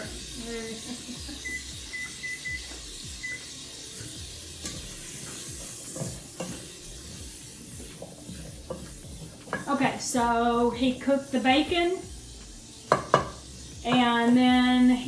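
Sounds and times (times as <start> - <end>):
vegetables sizzling in a pot: 0.0 - 15.0.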